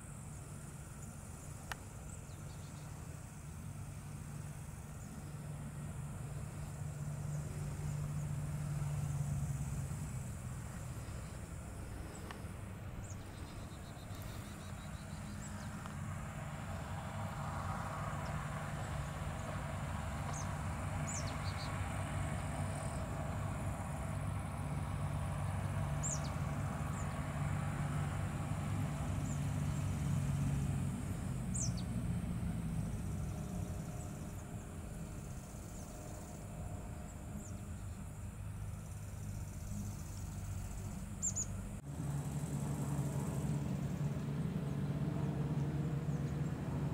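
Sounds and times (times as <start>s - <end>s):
distant engine drone: 0.0s - 46.9s.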